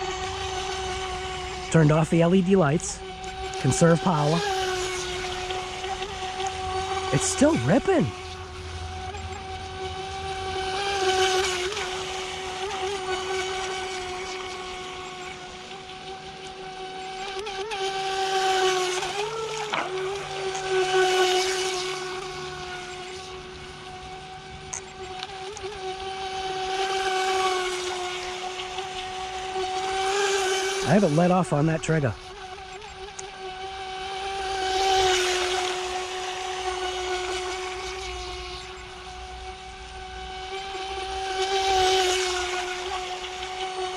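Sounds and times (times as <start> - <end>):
hull cutting water: 0.0 - 43.9
model boat motor whine: 0.0 - 43.9.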